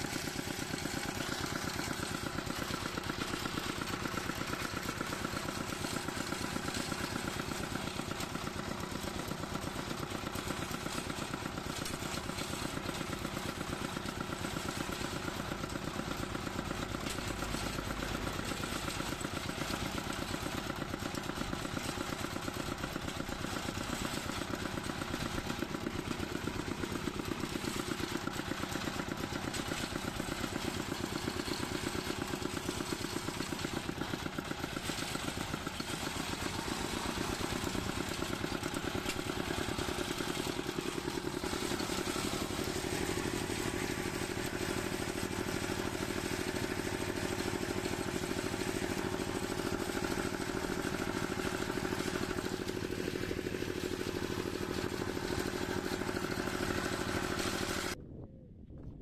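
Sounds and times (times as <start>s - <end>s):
tractor engine running: 0.0s - 58.1s.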